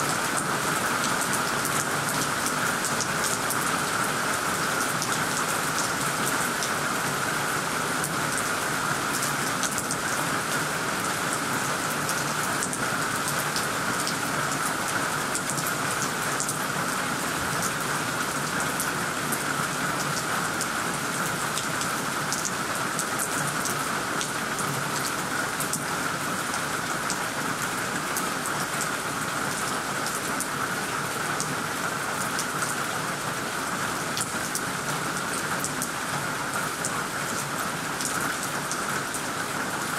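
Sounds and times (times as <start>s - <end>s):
heavy rain on leaves and roof: 0.0s - 39.9s.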